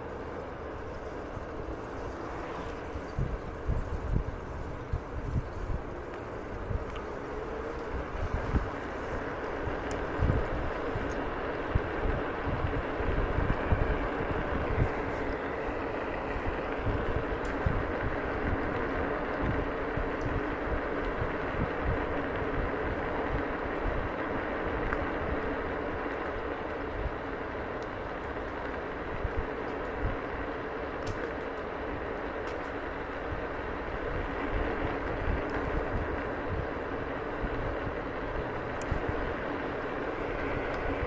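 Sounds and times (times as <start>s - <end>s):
electric scooter rolling over gravel: 0.0s - 41.0s.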